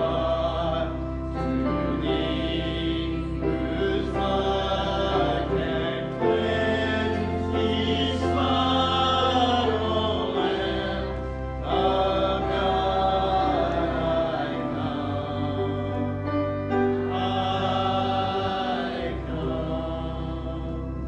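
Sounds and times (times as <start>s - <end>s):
congregation singing a hymn: 0.0s - 21.0s.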